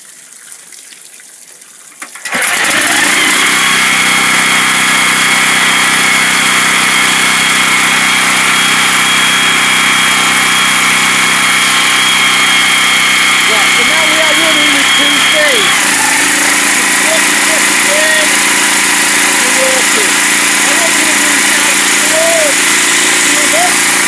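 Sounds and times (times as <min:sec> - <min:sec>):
petrol engine running loudly: 0:02.3 - 0:24.0.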